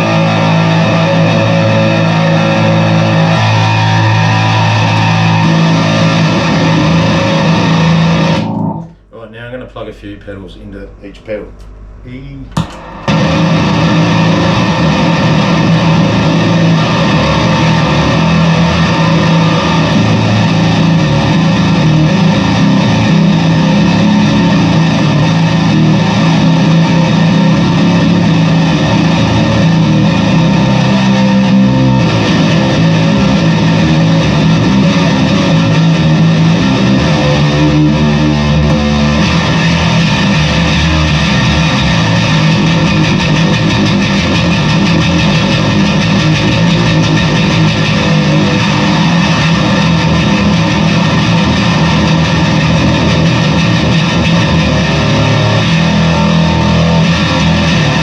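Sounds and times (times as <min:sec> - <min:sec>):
heavily distorted bass guitar: 0:00.0 - 0:10.0, 0:10.9 - 0:58.0.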